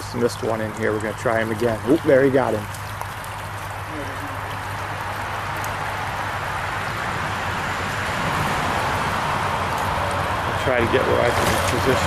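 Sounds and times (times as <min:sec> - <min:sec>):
brook running over rocks: 0:00.0 - 0:12.0
distant highway traffic drone: 0:00.0 - 0:12.0.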